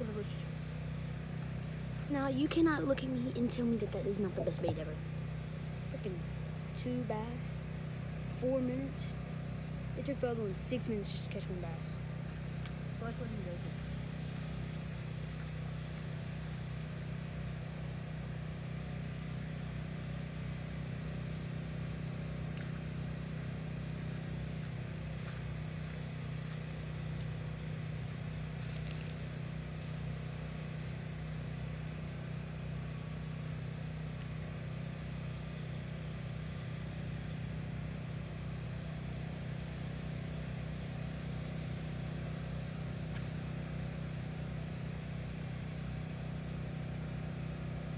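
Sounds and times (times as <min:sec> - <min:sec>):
low mechanical motor hum: 0:00.0 - 0:47.9.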